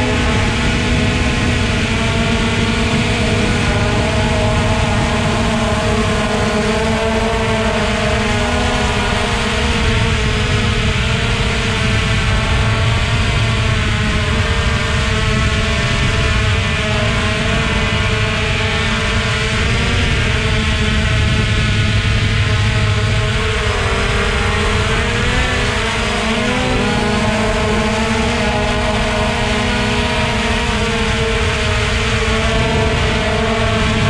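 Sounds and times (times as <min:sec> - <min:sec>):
model aircraft motor whine: 0:00.0 - 0:34.0.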